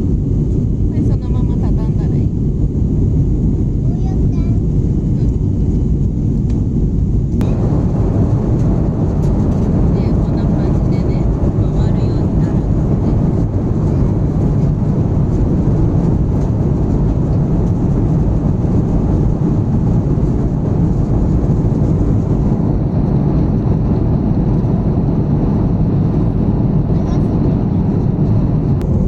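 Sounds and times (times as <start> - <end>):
airliner engines rumbling: 0.0 - 29.0
rushing air: 2.1 - 29.0.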